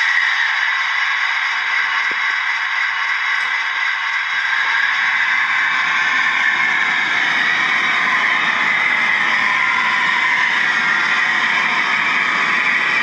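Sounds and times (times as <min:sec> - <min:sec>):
model train hiss: 0:00.0 - 0:13.0
model train rumble: 0:00.0 - 0:13.0.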